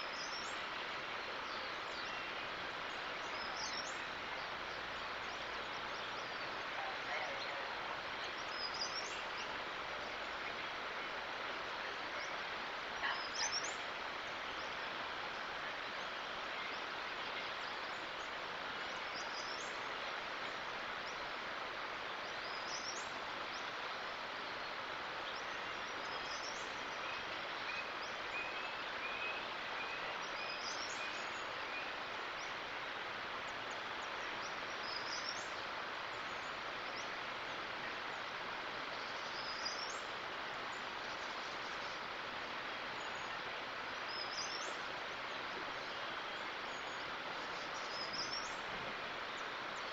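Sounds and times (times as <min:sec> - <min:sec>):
outdoor background hiss: 0:00.0 - 0:49.9.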